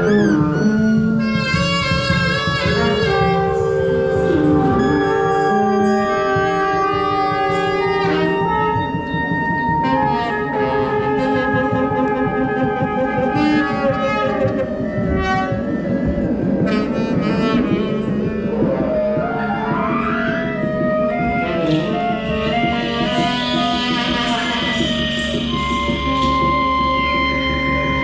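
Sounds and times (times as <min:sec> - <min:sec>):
instruments improvising together: 0:00.0 - 0:28.0.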